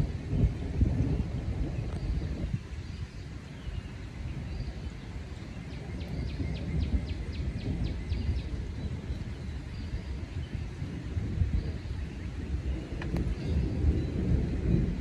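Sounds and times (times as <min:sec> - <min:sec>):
low thunder rumble: 0:00.0 - 0:15.0.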